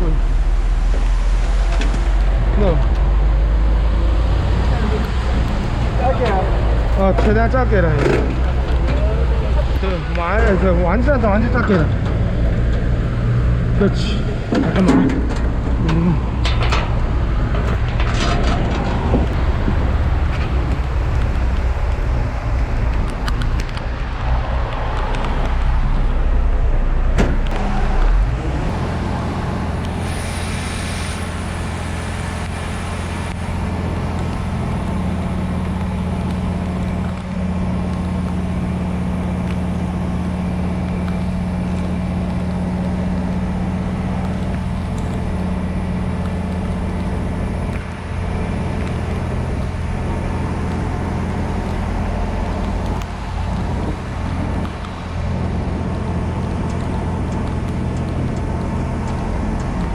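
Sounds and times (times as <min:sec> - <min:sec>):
diesel truck engine running: 0:00.0 - 0:59.9
engine knocks: 0:00.0 - 0:59.9.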